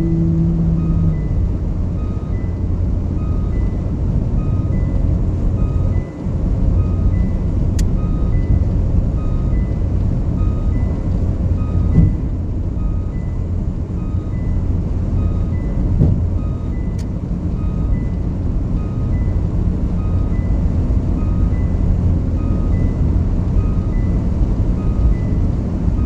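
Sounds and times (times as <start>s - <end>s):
car cabin road rumble: 0.0s - 26.0s.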